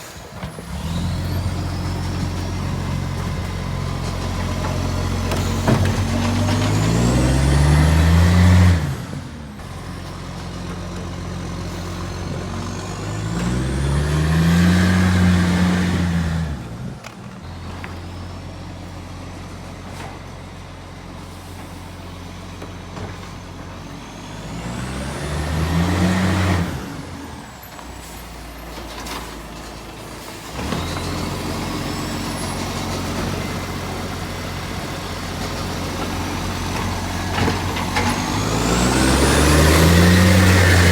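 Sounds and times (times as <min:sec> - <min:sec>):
diesel engine idling and revving: 0:00.0 - 0:40.9.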